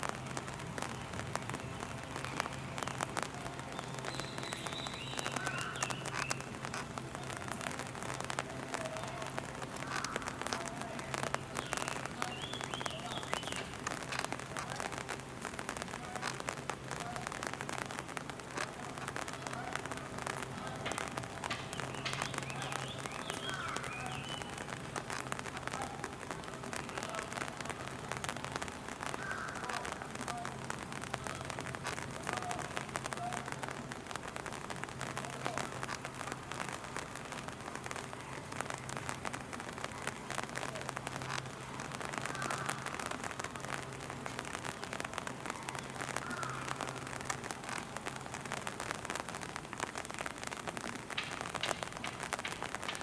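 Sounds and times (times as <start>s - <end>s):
rain pattering: 0.0s - 53.0s
faint distant voices: 0.1s - 53.0s.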